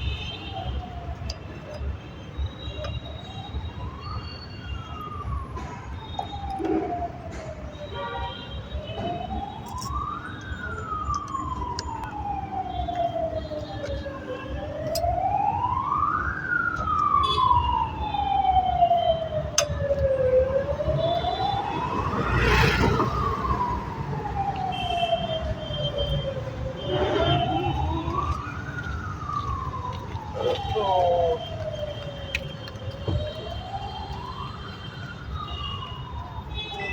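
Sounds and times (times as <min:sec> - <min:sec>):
siren wailing: 0:02.6 - 0:36.9.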